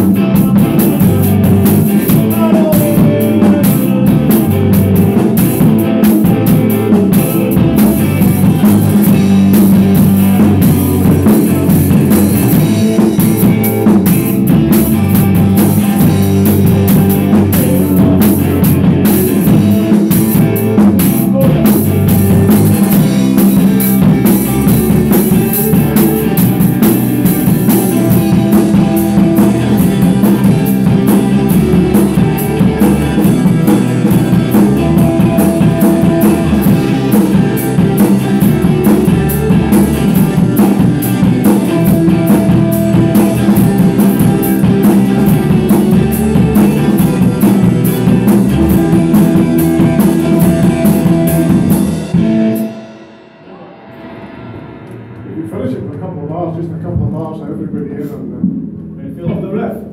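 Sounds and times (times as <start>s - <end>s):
rock band playing: 0.0s - 59.5s
drum kit: 0.0s - 59.9s
guitar: 0.0s - 59.9s.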